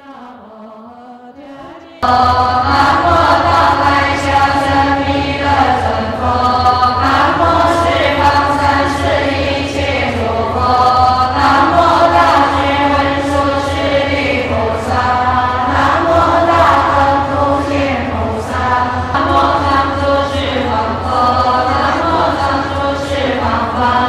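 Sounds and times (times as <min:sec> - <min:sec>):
voices chanting together: 0:00.0 - 0:24.0
low hum: 0:02.0 - 0:24.0.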